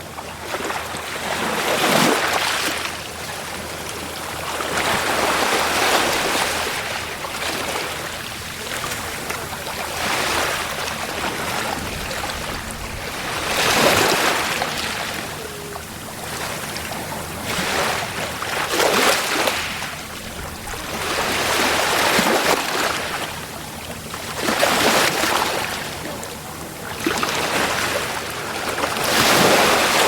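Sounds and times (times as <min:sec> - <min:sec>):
waves breaking on a beach: 0:00.0 - 0:30.0.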